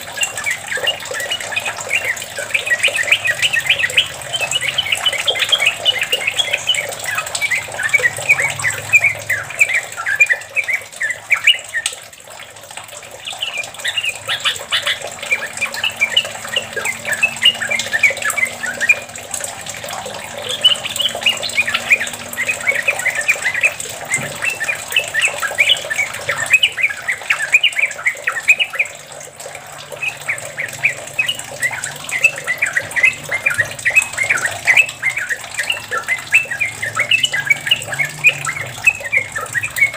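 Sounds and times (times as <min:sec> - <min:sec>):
bird singing rolling song: 0:00.0 - 0:39.9.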